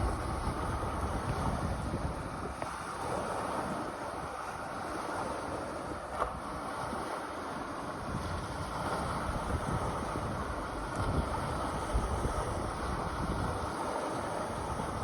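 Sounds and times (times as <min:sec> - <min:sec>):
choppy sea water: 0:00.0 - 0:15.0
wind buffeting microphone: 0:00.0 - 0:15.0.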